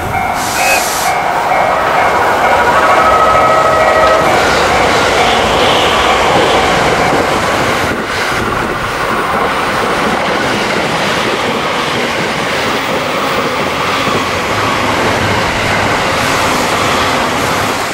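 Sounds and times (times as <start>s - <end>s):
train passing at high speed: 0.0s - 17.9s.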